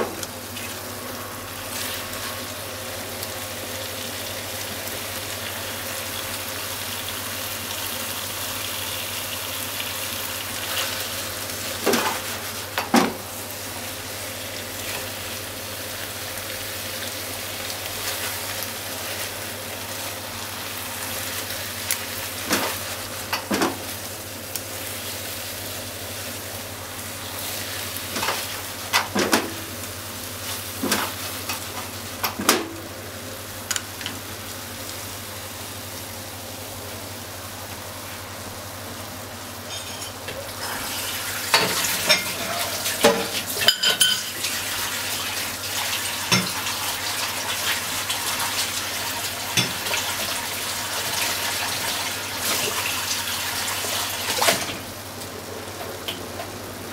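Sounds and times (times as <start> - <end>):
food sizzling in a frying pan: 0.0 - 56.9.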